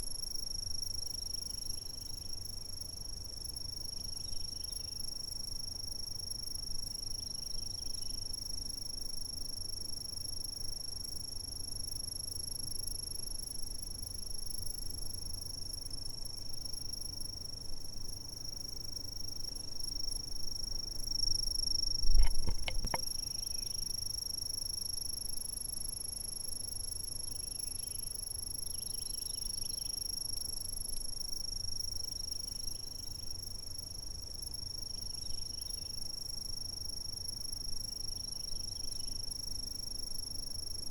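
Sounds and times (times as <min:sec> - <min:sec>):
insects trilling: 0:00.2 - 0:11.3, 0:11.9 - 0:40.9.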